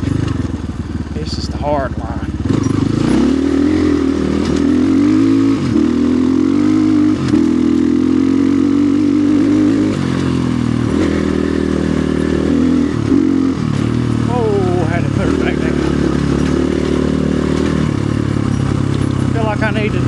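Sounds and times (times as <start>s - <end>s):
dirt bike engine running hard: 0.0s - 20.0s.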